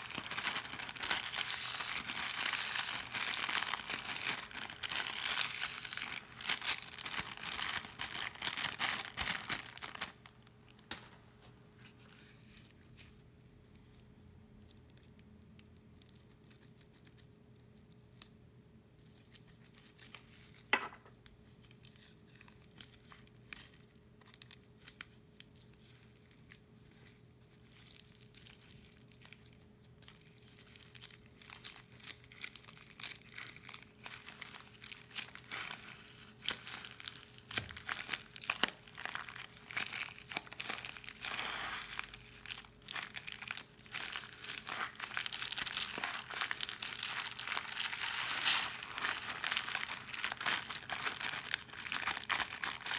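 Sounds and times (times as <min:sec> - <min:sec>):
plastic piping bag crinkling: 0:00.0 - 0:12.9, 0:21.6 - 0:52.9.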